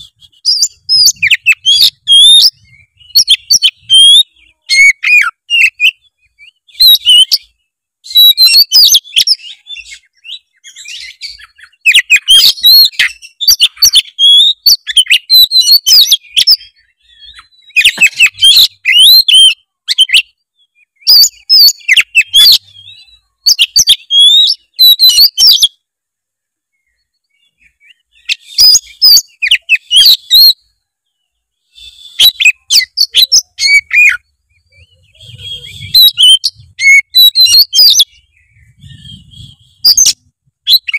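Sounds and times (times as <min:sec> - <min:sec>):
bird singing whistled phrases: 0:00.0 - 0:25.8, 0:26.7 - 0:40.9.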